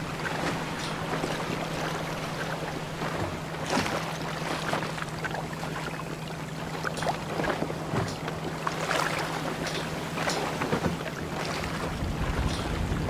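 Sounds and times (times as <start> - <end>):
boat engine drone: 0.0 - 13.0
water splashing: 0.0 - 13.0.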